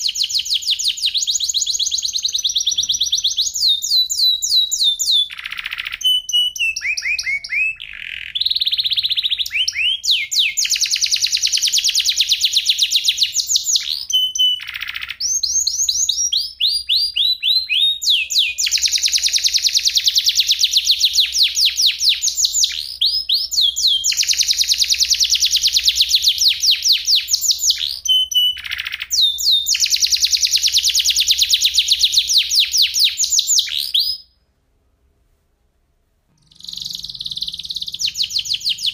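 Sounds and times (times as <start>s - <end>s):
canary singing trills: 0.0s - 34.4s, 36.4s - 38.9s.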